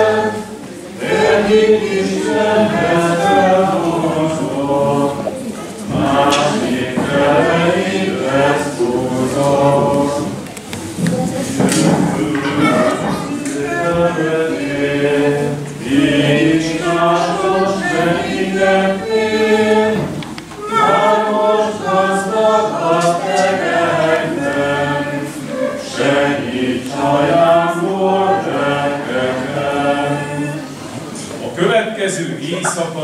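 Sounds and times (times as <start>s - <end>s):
group singing unaccompanied: 0.0s - 31.5s.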